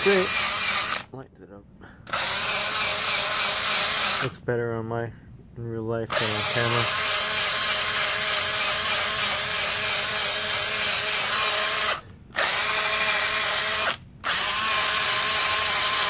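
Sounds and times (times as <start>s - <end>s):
drill wire brush scrubbing brick: 0.0s - 1.0s, 2.1s - 4.4s, 6.1s - 16.0s.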